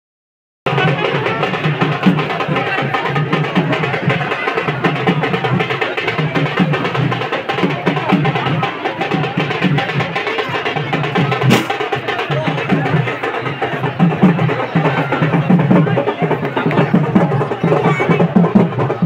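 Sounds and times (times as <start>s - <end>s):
crowd chatter: 0.7s - 19.0s
drums beating steady rhythm: 0.7s - 19.0s.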